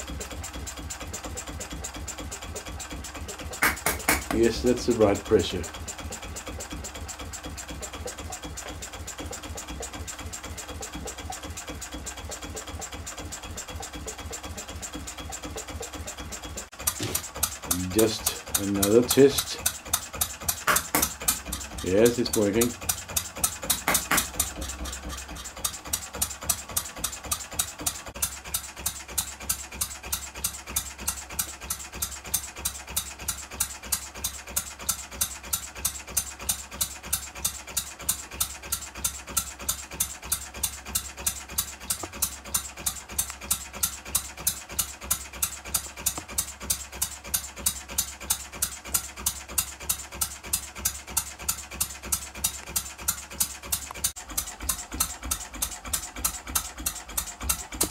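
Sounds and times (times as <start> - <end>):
model diesel engine running: 0.0 - 57.9.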